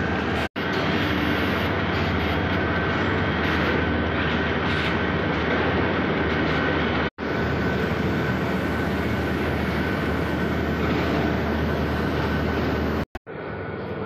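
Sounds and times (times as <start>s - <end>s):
machinery whine: 0.0s - 14.0s
mill machinery rumbling clatter: 0.0s - 14.0s.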